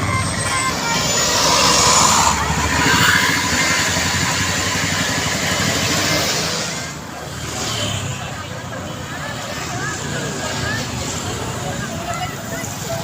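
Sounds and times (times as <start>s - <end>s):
bus engine rumbling: 0.0s - 13.0s
tyre and road noise: 0.0s - 13.0s.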